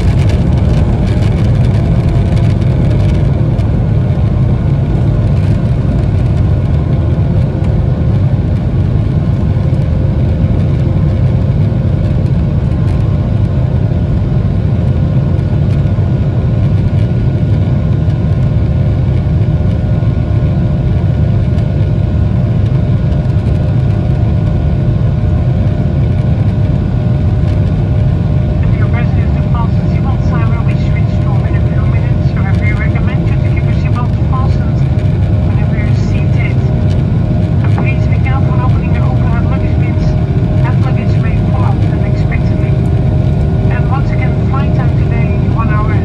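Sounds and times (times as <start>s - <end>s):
faint hum tones: 0.0s - 46.0s
jet engine rumble: 0.0s - 46.0s.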